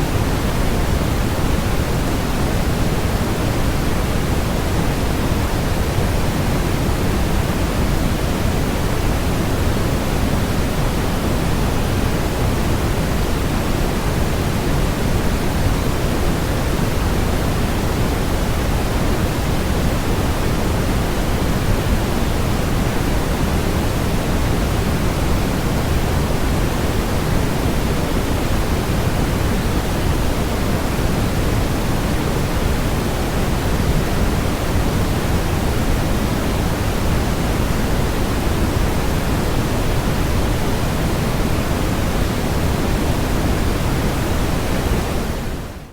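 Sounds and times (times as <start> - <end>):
white noise hiss: 0.0 - 45.9.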